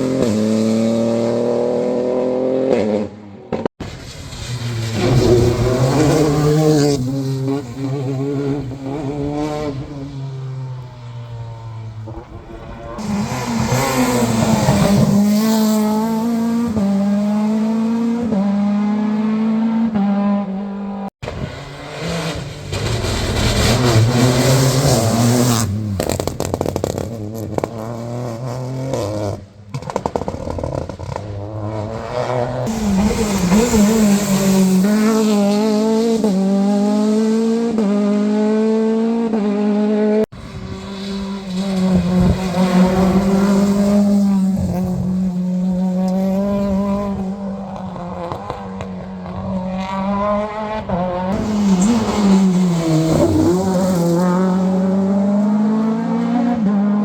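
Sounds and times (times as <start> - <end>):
rally cars accelerating hard: 0.0 - 57.0.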